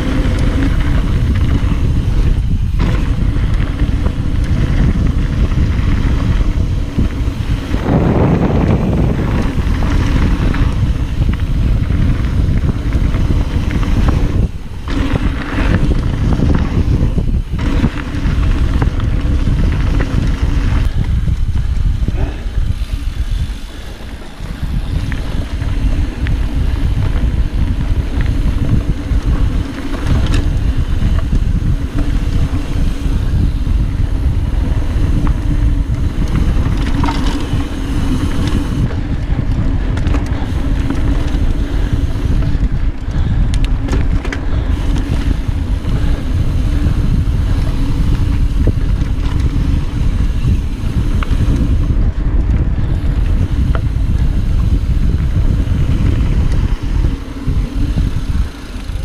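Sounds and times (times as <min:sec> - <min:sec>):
bike tyres rolling on dirt: 0:00.0 - 0:59.0
wind buffeting microphone: 0:00.0 - 0:59.0.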